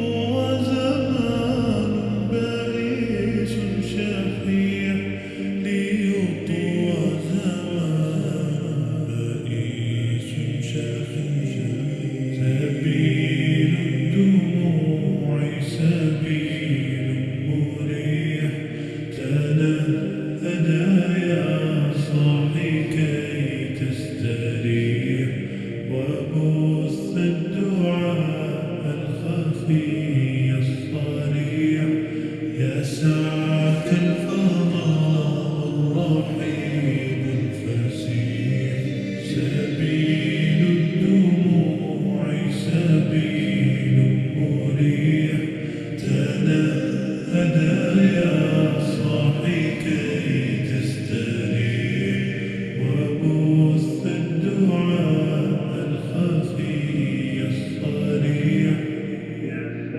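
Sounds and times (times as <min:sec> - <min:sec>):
male voices chanting with reverb: 0:00.0 - 0:59.9.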